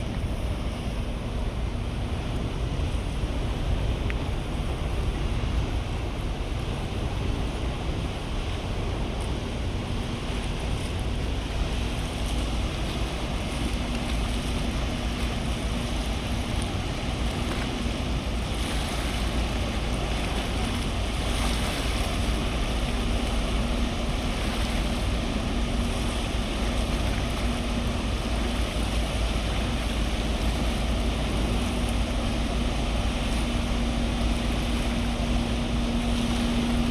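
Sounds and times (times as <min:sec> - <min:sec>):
waves washing on shore: 0:00.0 - 0:36.9
wind buffeting microphone: 0:00.0 - 0:36.9.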